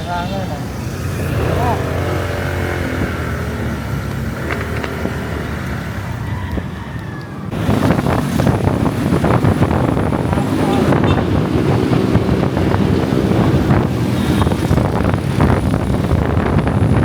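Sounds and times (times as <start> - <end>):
traffic noise: 0.0 - 17.0
motor scooter engine: 0.5 - 6.3, 7.4 - 17.0
wind buffeting microphone: 0.8 - 17.0.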